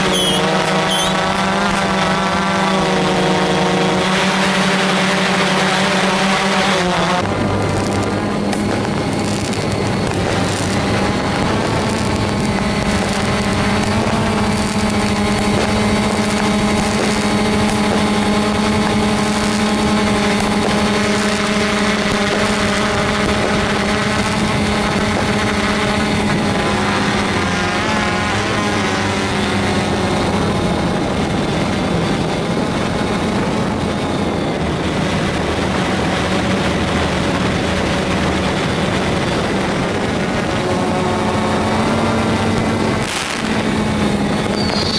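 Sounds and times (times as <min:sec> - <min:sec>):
drone motors humming: 0:00.0 - 0:44.9.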